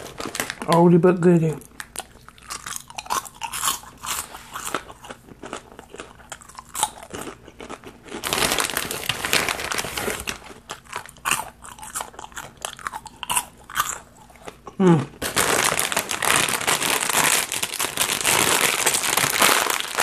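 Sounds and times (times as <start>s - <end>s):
snack bag rustling: 0.0s - 1.0s, 1.6s - 20.0s
crunching and chewing popcorn: 0.0s - 20.0s.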